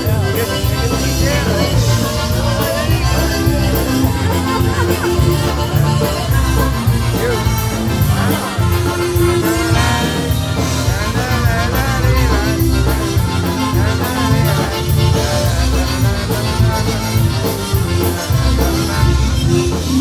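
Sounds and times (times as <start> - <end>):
polka band playing: 0.0 - 20.0.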